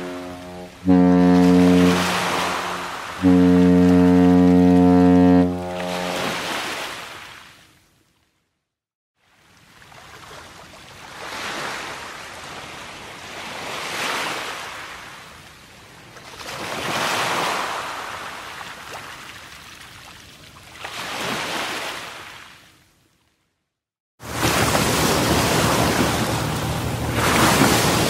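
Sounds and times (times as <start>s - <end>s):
waves breaking: 0.0s - 7.5s, 9.8s - 15.6s, 16.2s - 22.6s, 24.2s - 28.0s.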